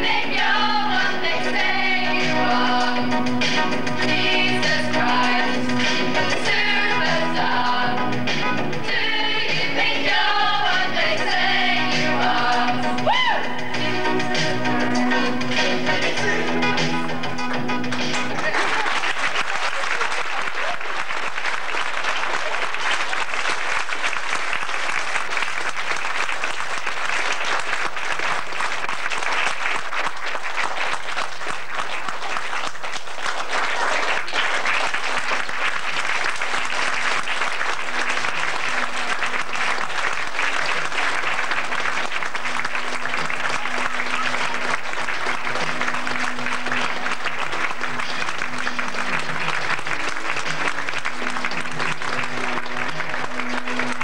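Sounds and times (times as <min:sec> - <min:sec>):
audience clapping: 0:00.0 - 0:54.0
faint music: 0:00.0 - 0:54.0.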